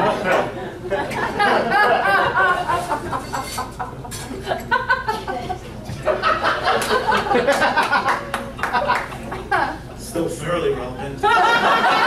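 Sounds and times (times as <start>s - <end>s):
audience laughing: 0.0s - 9.9s, 11.2s - 12.0s.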